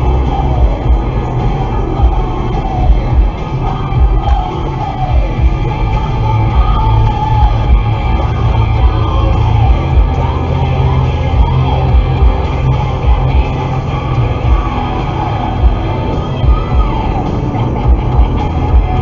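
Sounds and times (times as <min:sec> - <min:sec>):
rock music on radio: 0:00.0 - 0:19.0.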